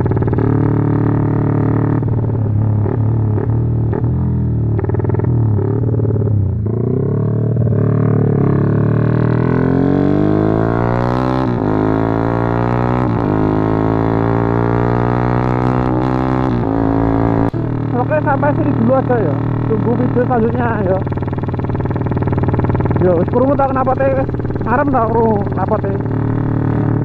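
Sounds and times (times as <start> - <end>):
motorcycle accelerating: 0.0 - 27.0.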